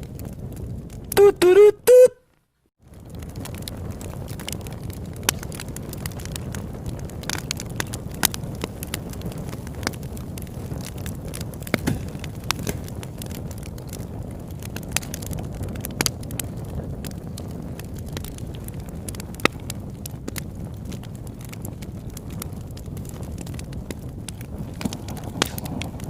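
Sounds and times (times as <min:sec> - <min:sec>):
low rush of flame: 0:00.0 - 0:01.2, 0:02.8 - 0:26.0
wood crackling and popping: 0:00.0 - 0:26.0.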